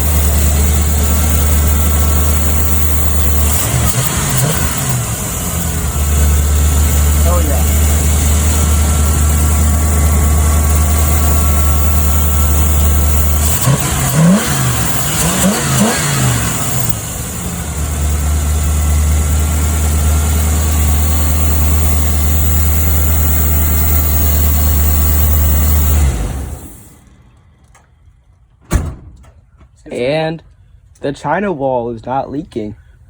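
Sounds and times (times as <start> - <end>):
truck engine idling and revving: 0.0 - 28.6.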